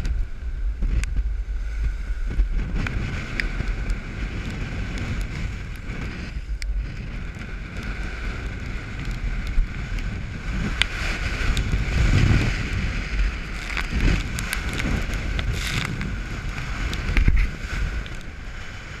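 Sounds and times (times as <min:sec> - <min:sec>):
wind buffeting microphone: 0:00.0 - 0:19.0
sea noise: 0:00.1 - 0:19.0.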